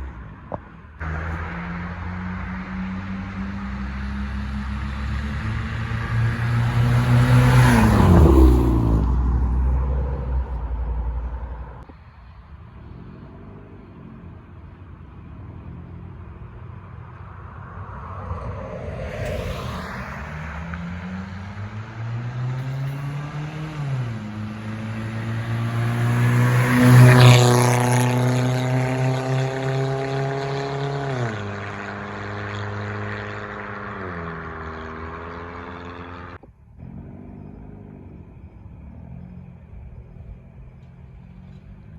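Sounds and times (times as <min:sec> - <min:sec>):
car engine with straight-piped exhaust: 0:00.0 - 0:41.9.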